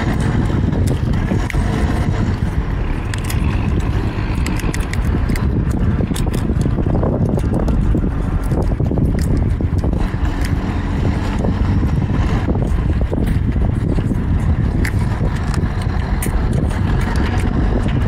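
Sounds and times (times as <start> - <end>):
shellfish shells clicking: 0.0 - 18.0
wind buffeting microphone: 0.0 - 18.0.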